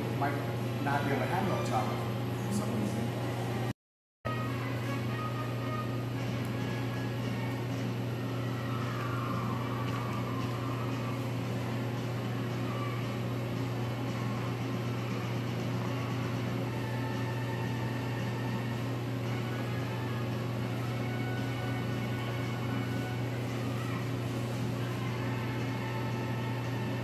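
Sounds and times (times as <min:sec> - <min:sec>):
kitchen equipment hum: 0:00.0 - 0:03.7, 0:04.3 - 0:27.0.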